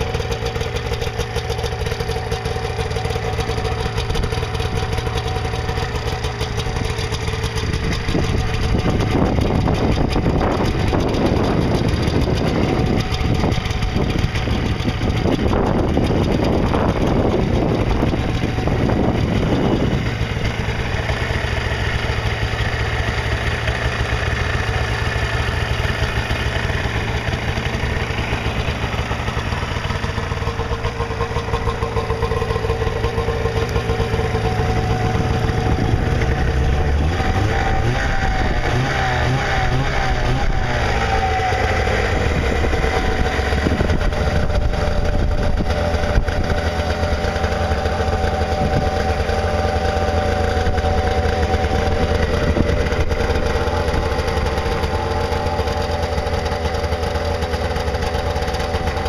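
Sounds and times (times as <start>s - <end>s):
snowmobile engine revving and idling: 0.0s - 59.0s.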